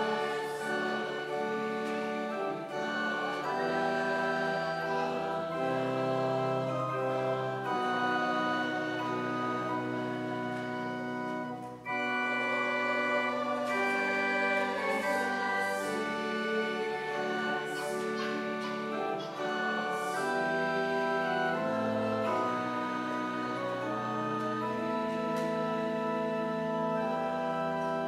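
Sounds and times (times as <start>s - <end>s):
pipe organ playing hymn chords: 0.0s - 28.0s.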